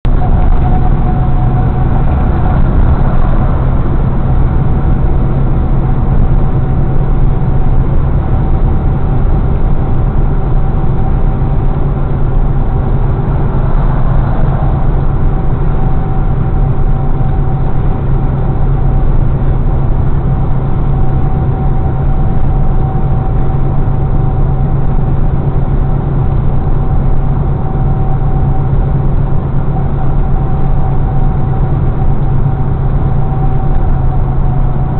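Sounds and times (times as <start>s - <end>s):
thin steady whine: 0.0s - 34.9s
truck engine and tyre drone: 0.0s - 34.9s.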